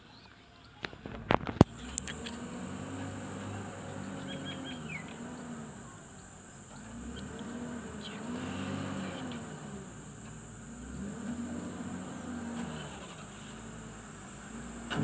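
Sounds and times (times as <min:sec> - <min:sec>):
diesel engines revving under load: 0:01.0 - 0:15.0.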